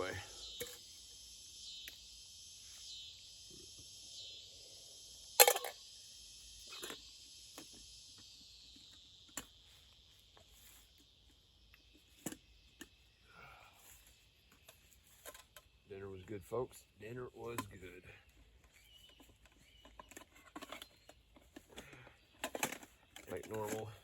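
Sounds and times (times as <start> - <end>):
insect chorus chirring: 0.0 - 24.0.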